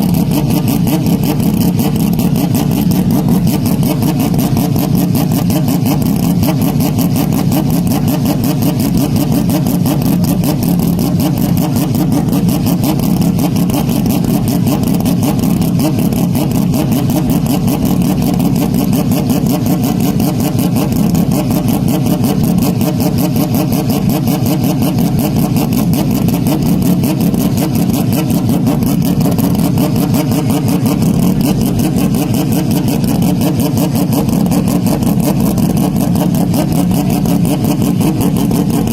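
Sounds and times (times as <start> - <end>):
motorcycle engines running: 0.0 - 38.9.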